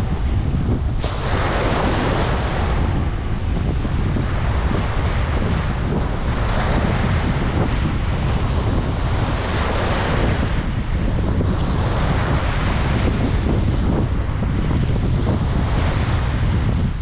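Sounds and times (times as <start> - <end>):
ocean waves washing on beach: 0.0 - 17.0
wind rumble on microphone: 0.0 - 17.0.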